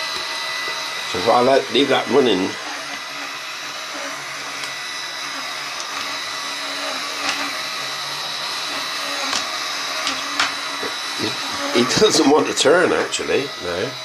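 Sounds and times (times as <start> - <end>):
flywheel spinning whir: 0.0 - 14.0.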